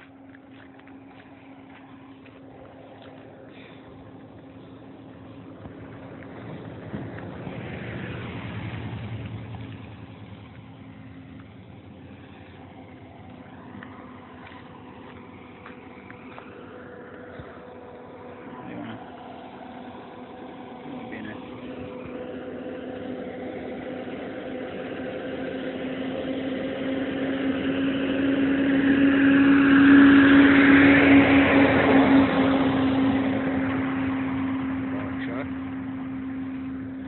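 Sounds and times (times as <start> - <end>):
diesel truck passing: 0.0 - 37.0.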